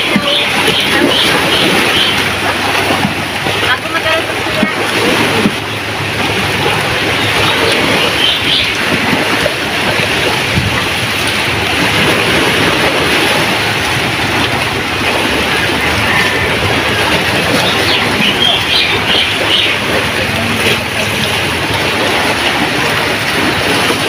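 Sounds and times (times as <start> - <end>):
waves washing in shallows: 0.0 - 24.0
wind: 0.0 - 24.0.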